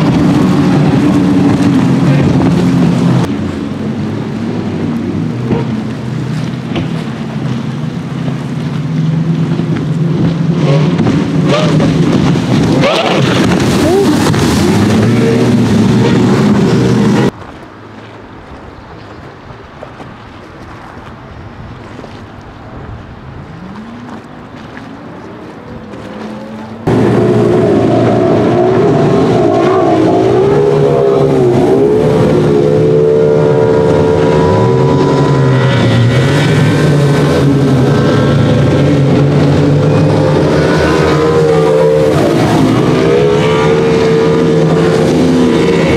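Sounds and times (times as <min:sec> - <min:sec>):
speedboat engines at full throttle: 0:00.0 - 0:45.9.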